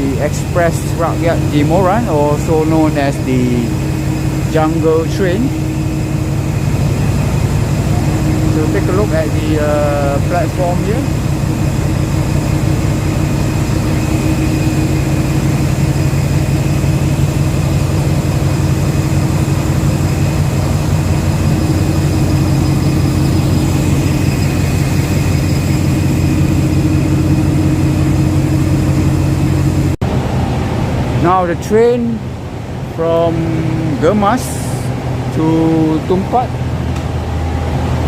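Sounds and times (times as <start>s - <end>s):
diesel locomotive engine humming: 0.0s - 38.0s
high whines: 0.0s - 38.0s.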